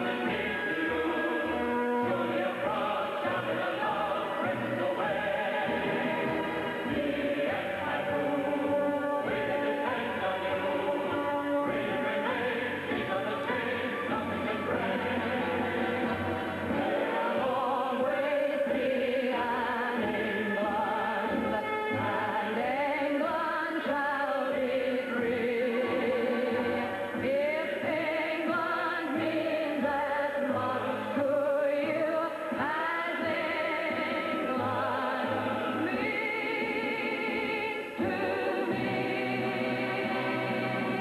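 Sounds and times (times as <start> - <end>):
operatic singing with vibrato: 0.0 - 41.0.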